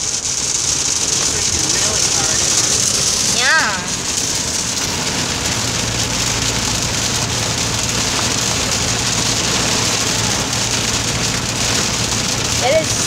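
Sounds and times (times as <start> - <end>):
hard rain on car roof: 0.0 - 13.0.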